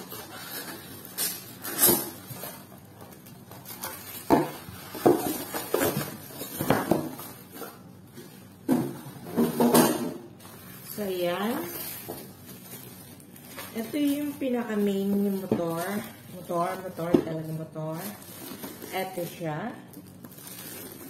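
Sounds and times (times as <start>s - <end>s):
plastic bags crinkling: 0.0s - 8.7s, 10.3s - 21.0s.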